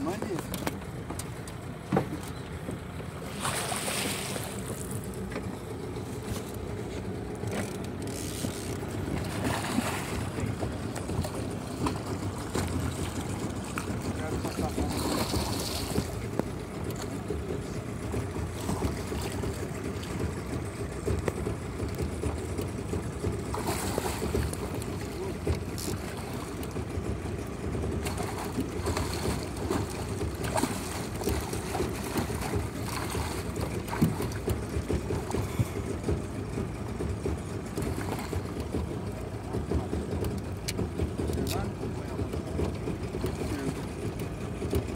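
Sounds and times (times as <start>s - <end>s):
boat on river rushing: 0.0s - 44.9s.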